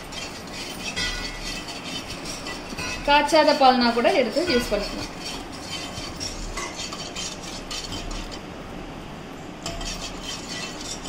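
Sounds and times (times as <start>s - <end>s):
wire whisk scraping a pan: 0.0s - 8.5s, 9.6s - 11.0s.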